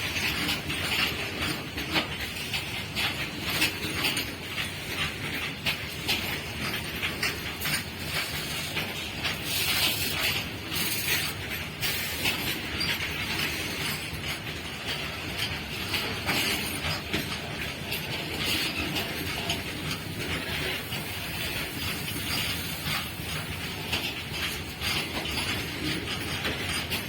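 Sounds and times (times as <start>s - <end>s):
train rumble: 0.0s - 27.0s
train wheels clattering: 0.0s - 27.0s.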